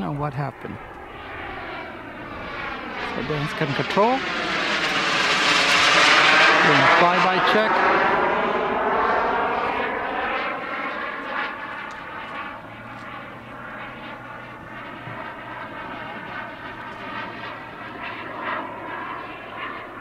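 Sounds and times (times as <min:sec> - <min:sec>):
model jet turbine whining: 0:00.0 - 0:20.0.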